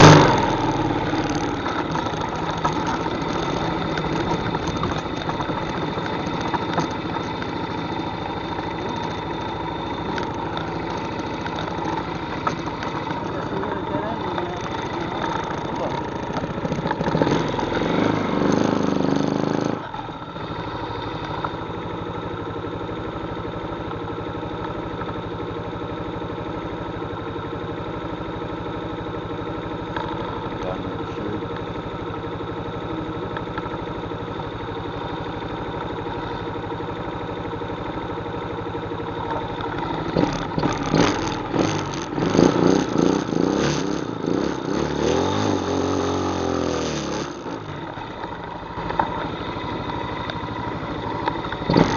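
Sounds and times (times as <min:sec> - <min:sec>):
atv engine revving and idling: 0:00.0 - 0:51.9.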